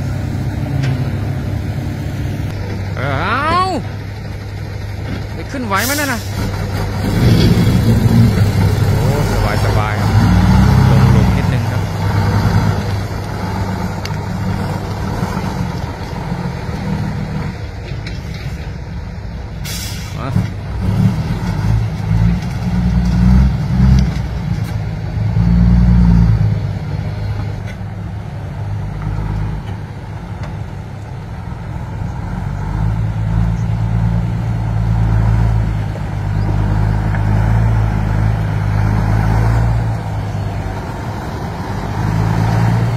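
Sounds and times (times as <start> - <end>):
diesel truck engine labouring: 0.0 - 42.9.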